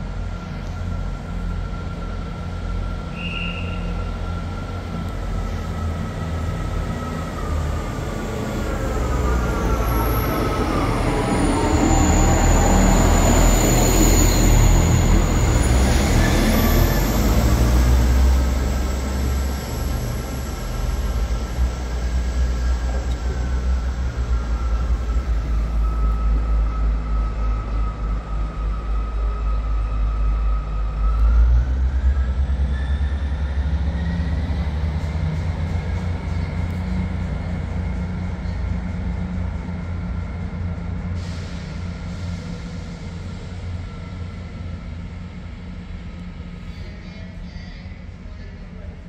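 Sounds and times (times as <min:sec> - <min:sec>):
train engine rumble: 0:00.0 - 0:49.0.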